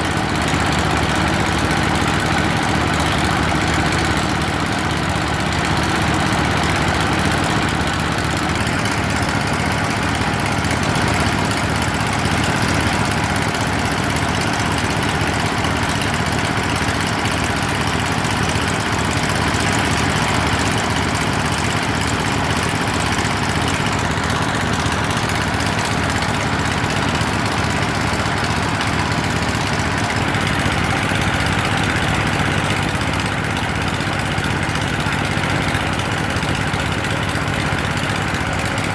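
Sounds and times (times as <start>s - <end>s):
motor-driven drilling rig pulsing: 0.0s - 38.9s.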